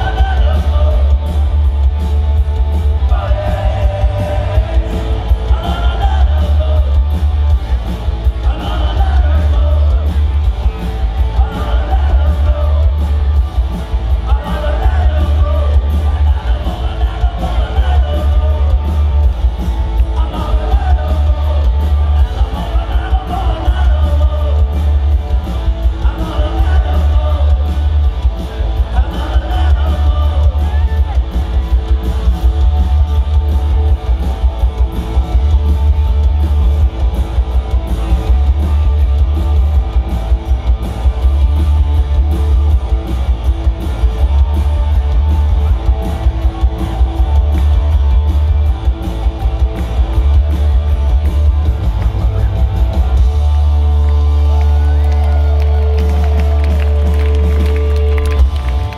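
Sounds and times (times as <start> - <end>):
punk rock band playing: 0.0 - 58.9.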